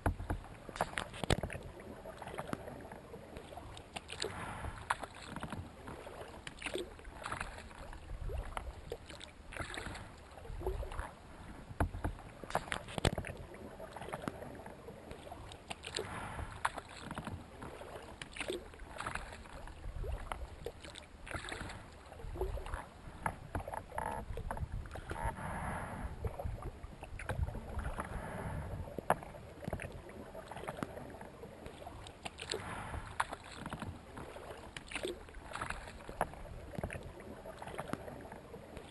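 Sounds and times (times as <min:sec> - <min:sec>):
paddle blades splashing: 0:00.0 - 0:38.9
water sloshing along hull: 0:00.0 - 0:38.9.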